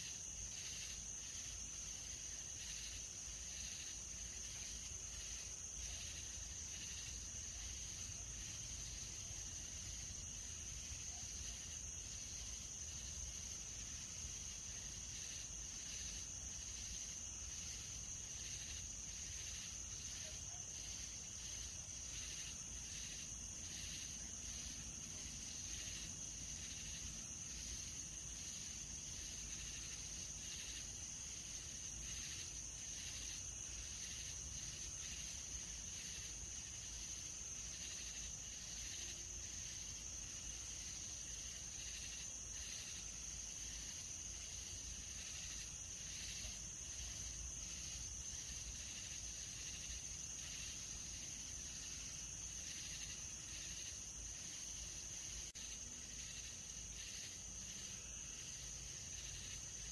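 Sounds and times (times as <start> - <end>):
high-pitched insect trill: 0.0 - 59.9
pulsing insect call: 0.0 - 59.9.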